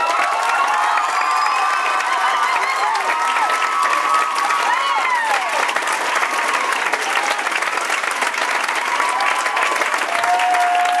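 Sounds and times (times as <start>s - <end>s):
audience applauding: 0.0s - 11.0s
crowd whooping: 0.0s - 11.0s.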